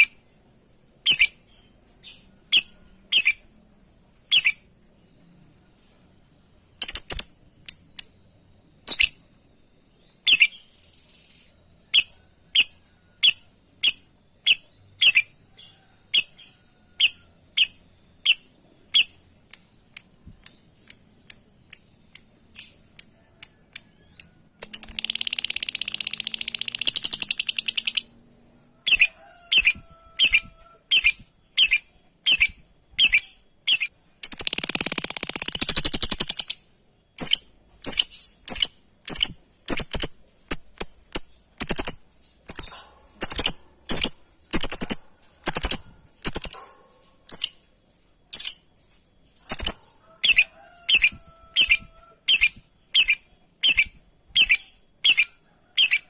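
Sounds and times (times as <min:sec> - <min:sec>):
lovebird chirping: 0:00.0 - 0:56.0.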